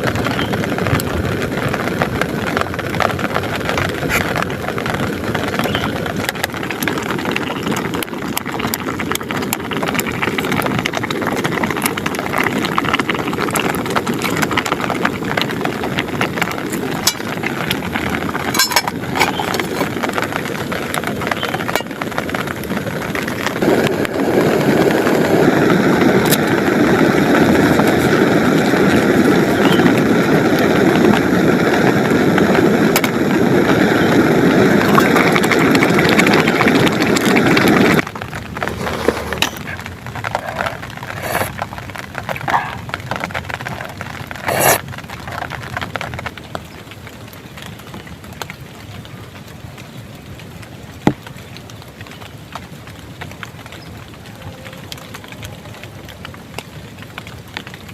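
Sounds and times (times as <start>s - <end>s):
heavy rain on plastic tarp: 0.0s - 57.9s.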